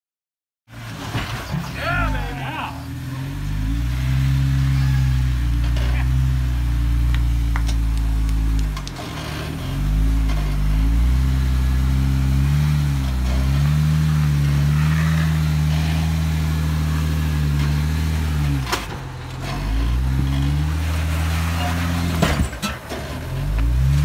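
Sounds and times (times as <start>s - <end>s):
car engine revving under load: 0.7s - 24.0s.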